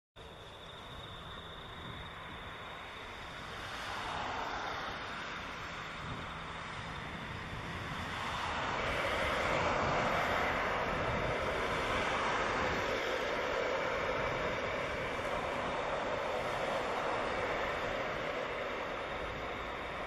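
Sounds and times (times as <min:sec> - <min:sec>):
jet engines taxiing: 0:00.2 - 0:20.0.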